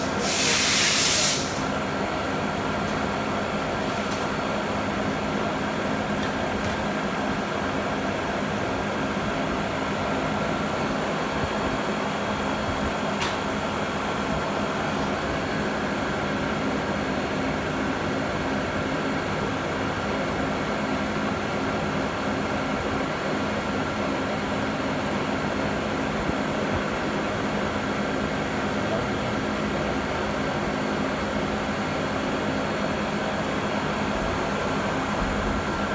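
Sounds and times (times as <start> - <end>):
steady machine hum: 0.0 - 35.9.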